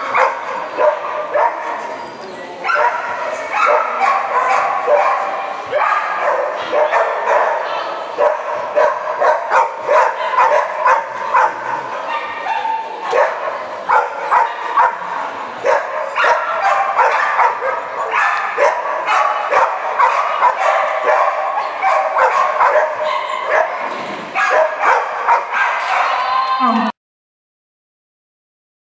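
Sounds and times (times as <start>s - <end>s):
dog barking: 0.0s - 1.8s, 2.6s - 26.2s.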